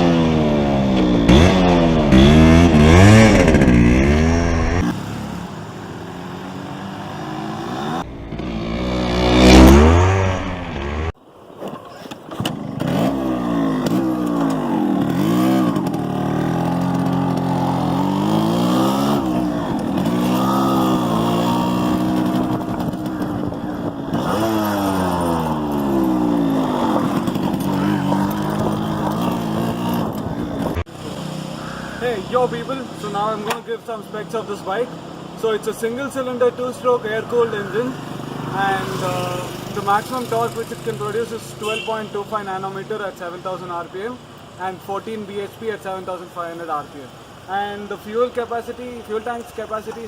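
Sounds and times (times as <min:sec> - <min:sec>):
two-stroke engine revving: 0:00.0 - 0:11.2, 0:12.3 - 0:42.9.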